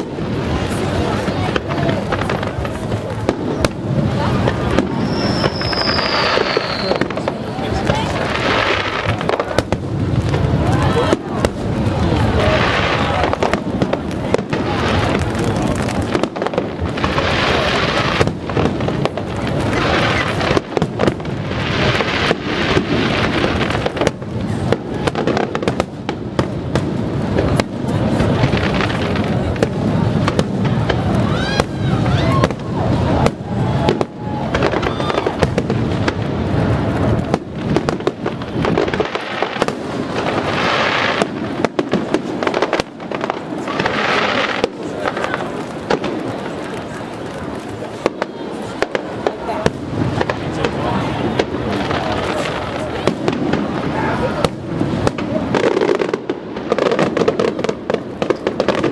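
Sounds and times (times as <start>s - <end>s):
fireworks bangs: 0.0s - 58.9s
hissing crackle of fireworks: 0.0s - 58.9s.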